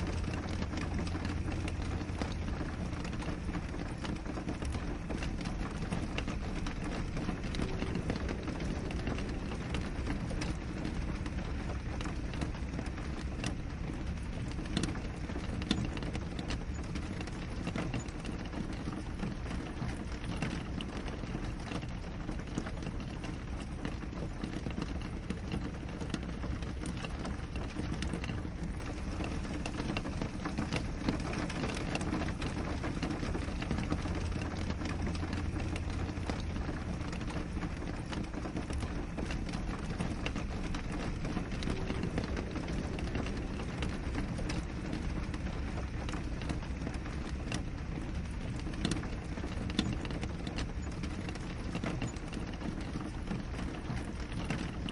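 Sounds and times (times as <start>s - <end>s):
rain pattering on window glass: 0.0s - 54.9s.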